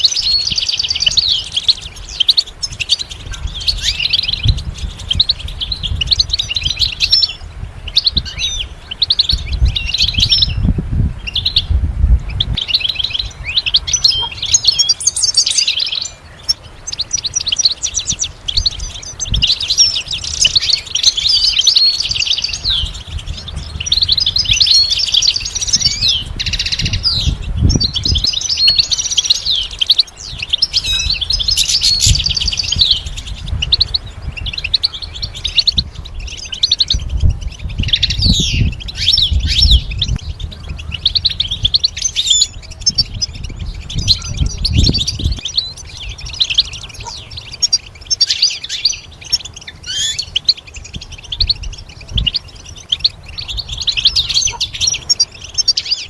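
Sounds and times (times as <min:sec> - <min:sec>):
goldfinch twittering and trilling: 0:00.0 - 0:56.0.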